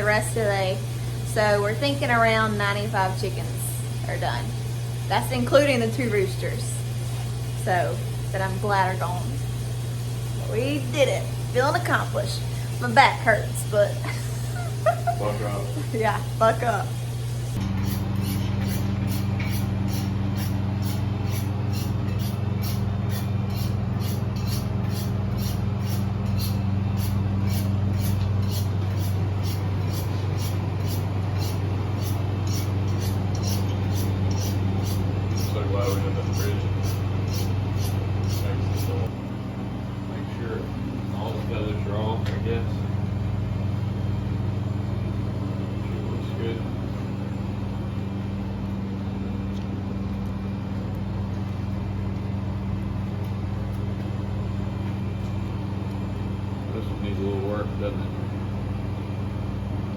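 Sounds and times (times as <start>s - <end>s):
chicken plucker motor hum: 0.0s - 59.9s.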